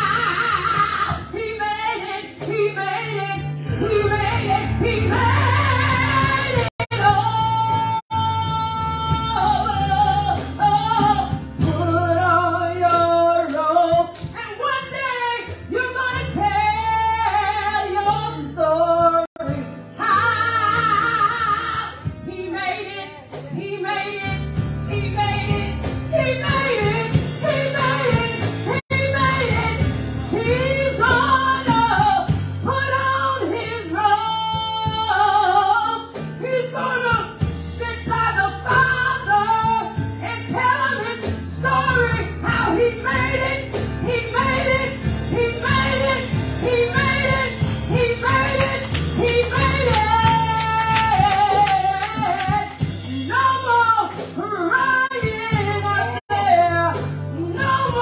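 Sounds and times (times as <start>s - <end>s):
person singing gospel song: 0.0s - 58.0s.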